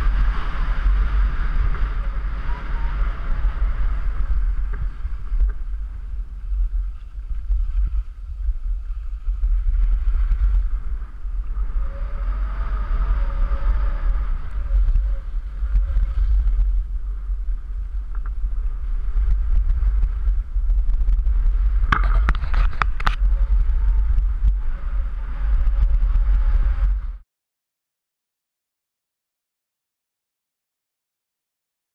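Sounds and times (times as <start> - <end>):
wind buffeting microphone: 0.0 - 27.2.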